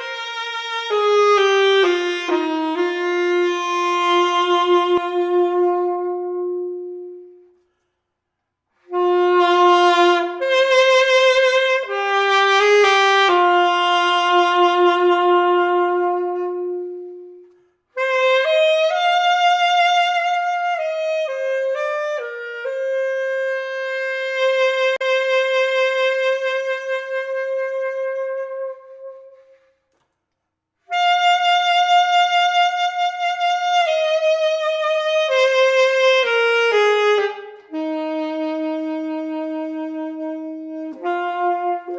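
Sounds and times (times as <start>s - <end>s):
alto saxophone slow melody: 0.0s - 30.2s, 30.8s - 41.9s.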